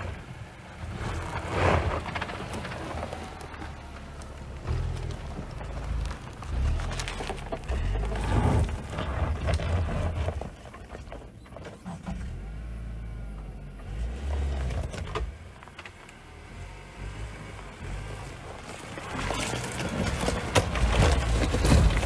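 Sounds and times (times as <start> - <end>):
car engine pulling uphill: 0.0 - 22.0
tyres crunching over stones: 0.0 - 22.0.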